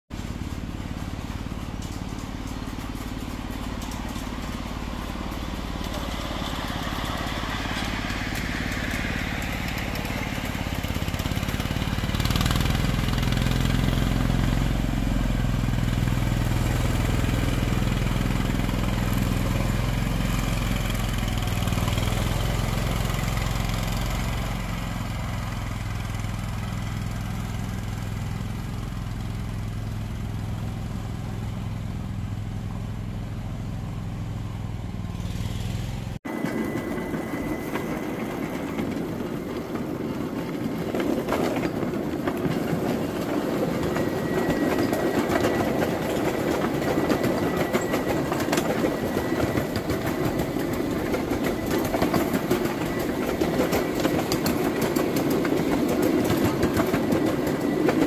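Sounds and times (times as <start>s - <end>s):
small locomotive engine running: 0.1s - 58.0s.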